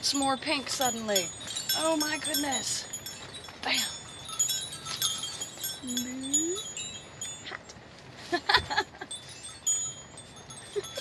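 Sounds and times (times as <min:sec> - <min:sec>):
small metal chimes tinkling: 0:00.0 - 0:11.0.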